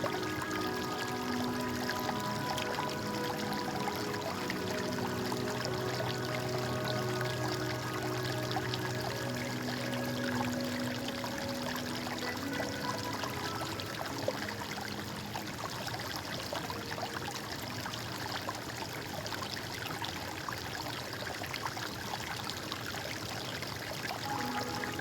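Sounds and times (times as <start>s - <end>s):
stream flowing over rocks: 0.0s - 25.0s.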